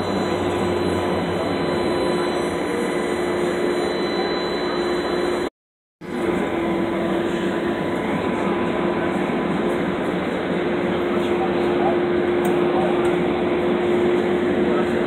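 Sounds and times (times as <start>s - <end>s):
streetcar hum and rolling rumble: 0.0s - 15.0s.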